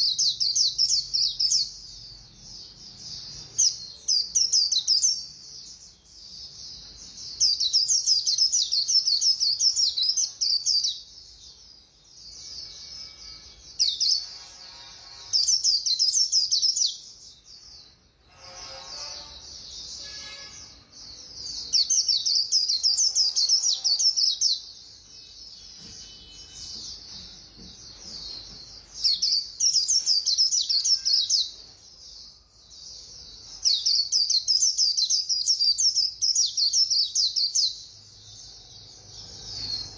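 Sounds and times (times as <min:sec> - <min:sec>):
bird high twittering song: 0:00.0 - 0:39.9.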